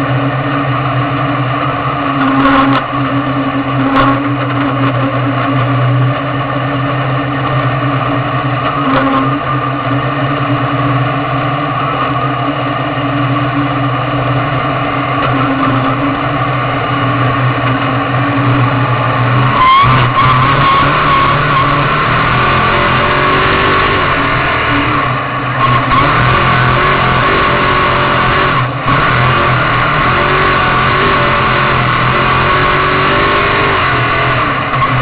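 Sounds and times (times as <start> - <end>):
race car engine running: 0.0 - 35.0.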